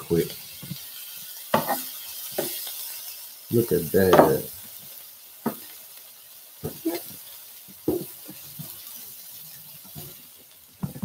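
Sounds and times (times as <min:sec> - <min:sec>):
greens sizzling in butter: 0:00.0 - 0:11.0.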